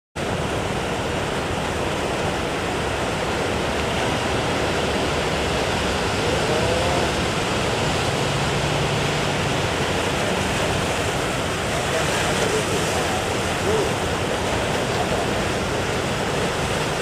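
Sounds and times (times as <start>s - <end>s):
big waves breaking: 0.2s - 17.0s.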